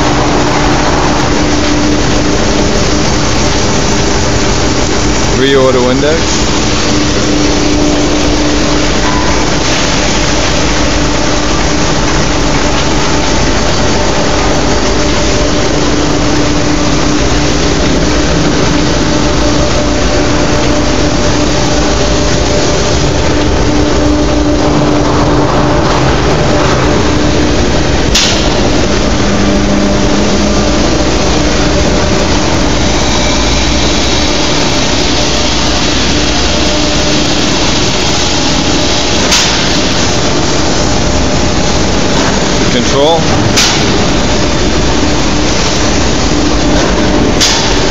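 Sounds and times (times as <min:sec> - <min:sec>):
machinery droning: 0:00.0 - 0:47.9.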